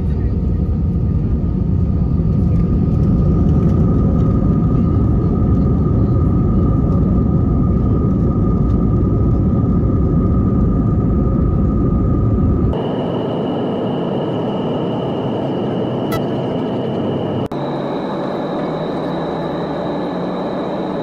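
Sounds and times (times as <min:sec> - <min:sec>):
high engine whine: 0:00.0 - 0:21.0
jet engine rumble in cabin: 0:00.0 - 0:21.0.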